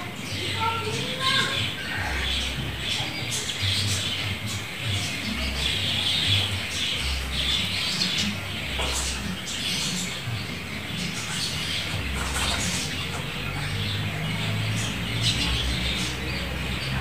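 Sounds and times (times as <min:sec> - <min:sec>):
bird chirping and calling: 0:00.0 - 0:17.0.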